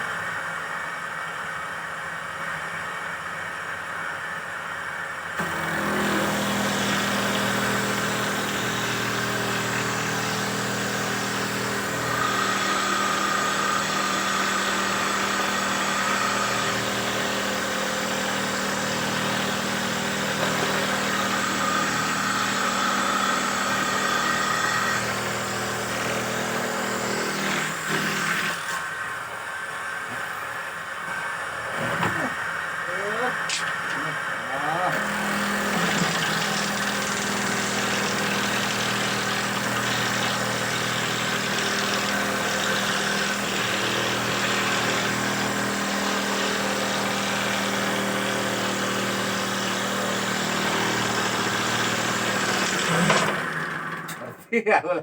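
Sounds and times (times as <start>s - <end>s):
machine motor running: 5.4s - 54.4s.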